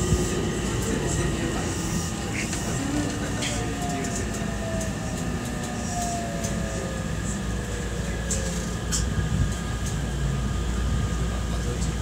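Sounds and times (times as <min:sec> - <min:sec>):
train wheels rumbling: 0:00.0 - 0:10.7.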